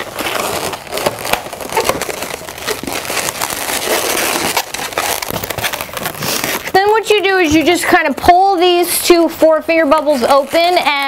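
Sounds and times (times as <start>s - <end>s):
balloons rubbing: 0.0s - 11.0s.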